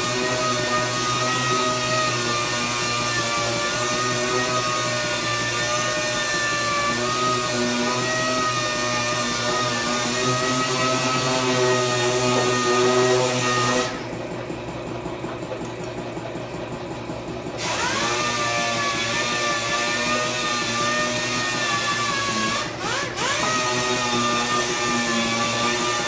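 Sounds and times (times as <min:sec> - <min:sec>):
small power tool whining: 0:00.0 - 0:14.2, 0:17.6 - 0:26.0.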